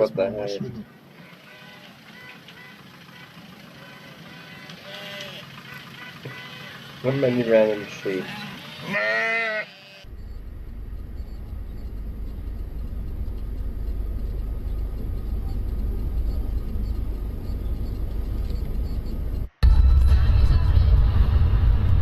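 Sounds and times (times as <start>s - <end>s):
car engine and road noise: 0.0s - 9.4s, 10.0s - 22.0s.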